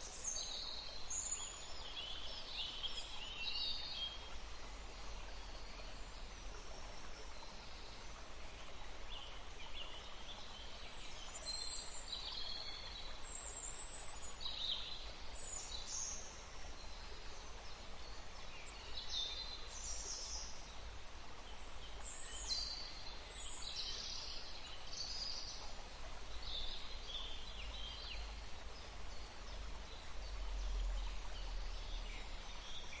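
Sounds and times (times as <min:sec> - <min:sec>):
running water hiss: 0:00.0 - 0:33.0.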